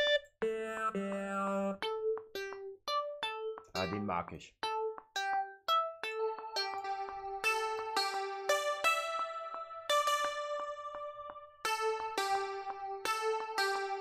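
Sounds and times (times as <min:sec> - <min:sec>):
plucky synth keyboard melody: 0:00.0 - 0:14.0.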